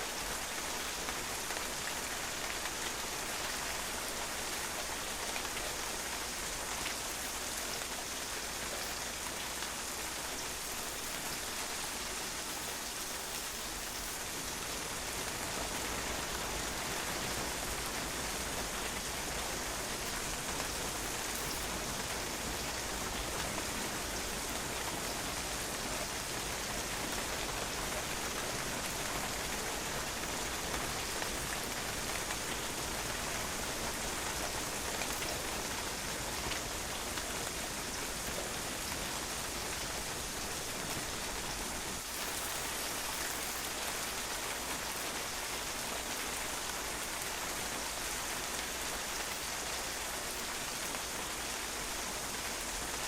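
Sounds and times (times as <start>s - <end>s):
rain pattering on a patio: 0.0s - 53.0s.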